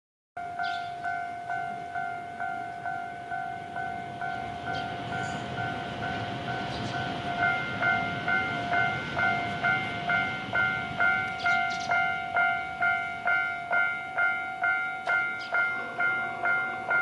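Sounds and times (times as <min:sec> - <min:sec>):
level-crossing alarm two-tone clang: 0:00.4 - 0:17.0.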